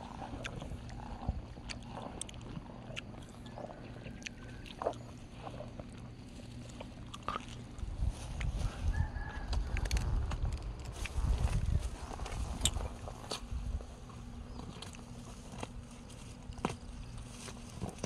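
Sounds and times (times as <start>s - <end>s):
cow grazing in dry grass: 0.0s - 18.0s
faint low hum: 0.0s - 18.0s
low rumble: 0.0s - 18.0s.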